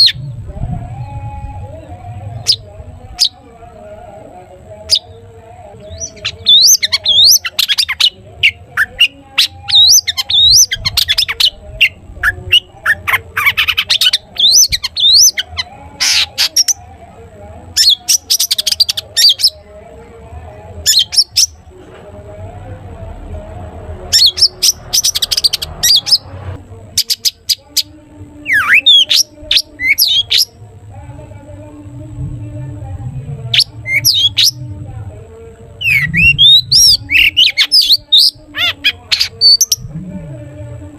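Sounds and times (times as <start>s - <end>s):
shrike singing chattering song: 0.0s - 40.9s.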